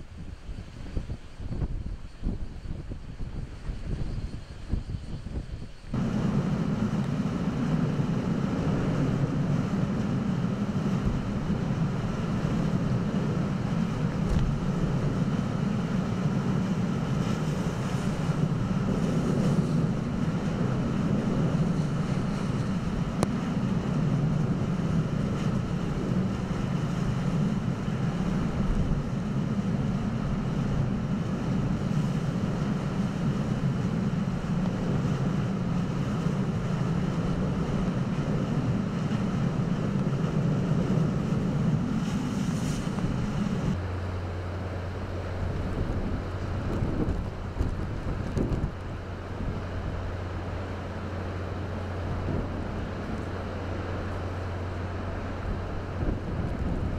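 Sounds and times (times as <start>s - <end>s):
wind buffeting microphone: 0.0s - 56.9s
surf breaking on breakwater: 5.9s - 56.9s.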